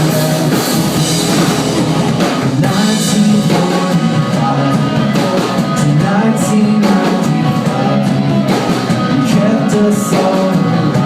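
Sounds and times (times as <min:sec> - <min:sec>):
bass guitar: 0:00.0 - 0:11.0
drum kit: 0:00.0 - 0:11.0
electric guitars: 0:00.0 - 0:11.0.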